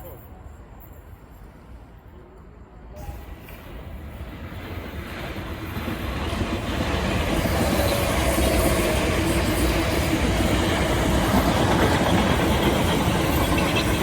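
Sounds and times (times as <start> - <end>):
passenger train on rails: 0.0 - 14.0.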